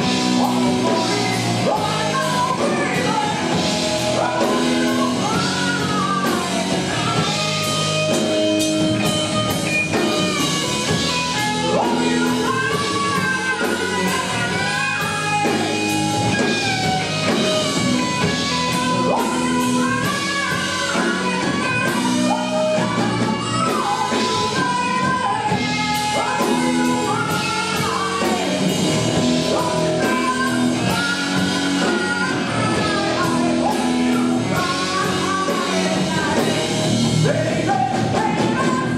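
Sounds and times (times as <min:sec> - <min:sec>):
man singing into a microphone: 0:00.0 - 0:09.0, 0:09.8 - 0:38.9
drum kit: 0:00.0 - 0:38.9
electric guitars: 0:00.0 - 0:38.9.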